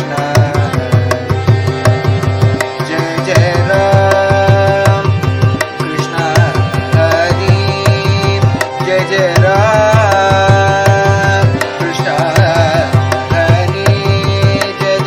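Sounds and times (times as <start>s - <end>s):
harmonium: 0.0s - 15.0s
mridangam beat: 0.0s - 15.0s
person singing ornamented notes: 0.0s - 15.0s.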